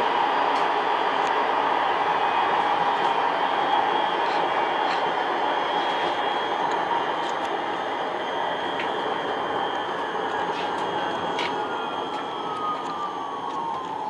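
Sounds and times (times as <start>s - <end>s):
faint high whine: 0.0s - 14.0s
tram rolling and motor noise: 0.0s - 14.0s.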